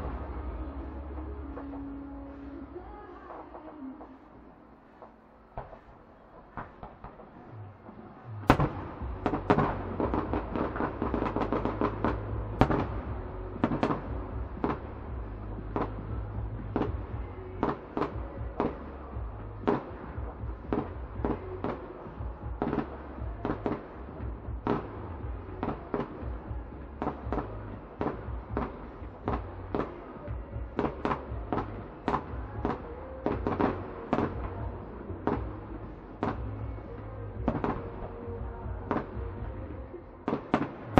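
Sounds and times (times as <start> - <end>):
low rumble: 0.0 - 3.0, 7.6 - 40.9
rapid firework bangs and crackle: 0.0 - 40.9.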